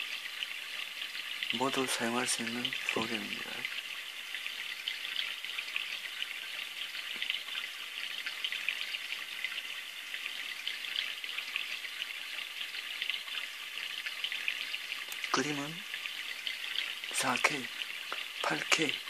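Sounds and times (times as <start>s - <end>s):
water trickling and bubbling: 0.0s - 19.0s.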